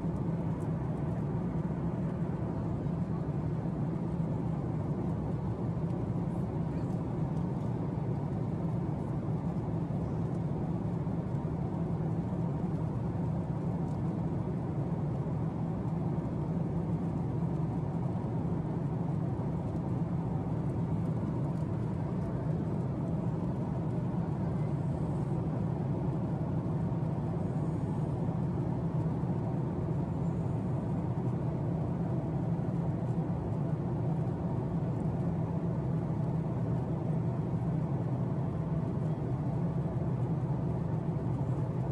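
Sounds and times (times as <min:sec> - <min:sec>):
airplane cabin hum: 0:00.0 - 0:41.9.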